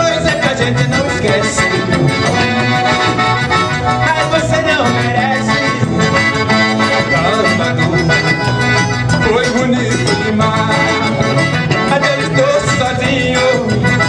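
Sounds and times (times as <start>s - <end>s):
bass drum thumping: 0.0s - 14.0s
electric bass guitar: 0.0s - 14.0s
piano accordion: 0.0s - 14.0s.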